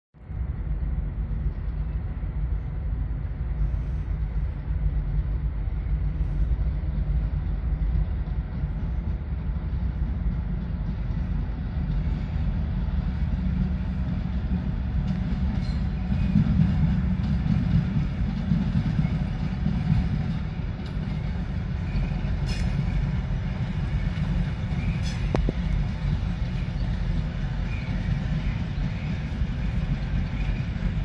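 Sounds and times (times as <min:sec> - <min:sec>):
diesel locomotive engine drone: 0:00.2 - 0:31.0.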